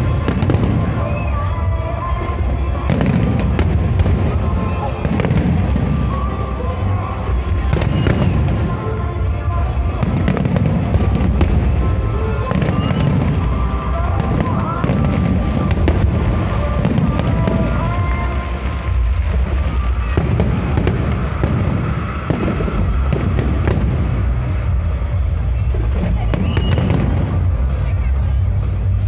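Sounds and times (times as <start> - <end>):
fireworks crackling bursts: 0.0 - 29.0
music playing: 0.0 - 29.0.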